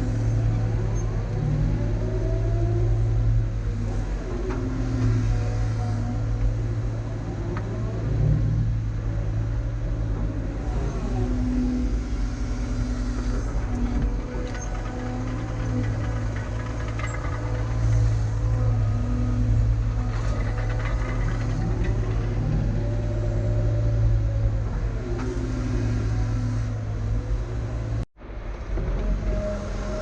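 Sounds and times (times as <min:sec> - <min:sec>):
excavator diesel engine running: 0:00.0 - 0:30.0
hydraulics whining: 0:00.0 - 0:30.0.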